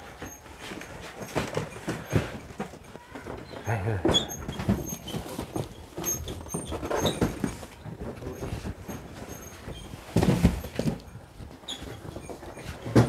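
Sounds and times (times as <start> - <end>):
cardboard cartons knocking and thudding: 0.1 - 13.0.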